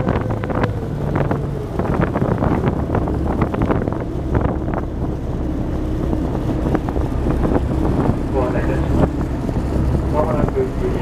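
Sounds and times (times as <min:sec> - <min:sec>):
ferry engine drone: 0:00.0 - 0:11.0
water rushing past hull: 0:00.0 - 0:11.0
wind buffeting microphone: 0:00.0 - 0:11.0.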